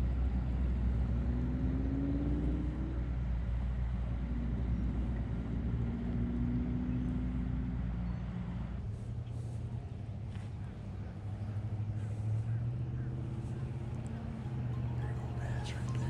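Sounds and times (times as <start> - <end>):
distant engine running: 0.0 - 16.0.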